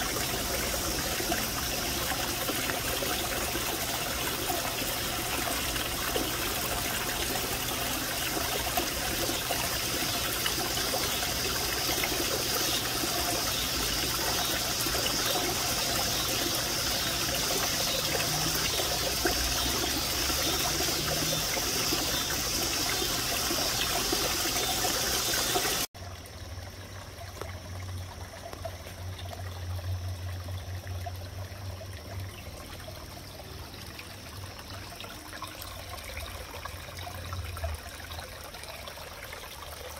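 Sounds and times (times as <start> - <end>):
small waterfall trickling: 0.0 - 39.9.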